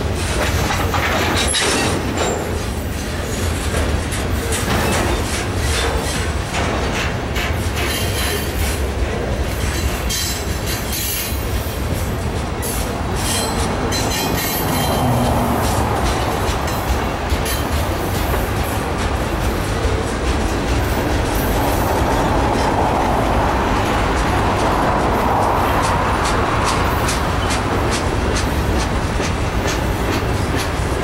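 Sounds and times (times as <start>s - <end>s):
steel wheels rolling on rail: 0.0s - 31.0s.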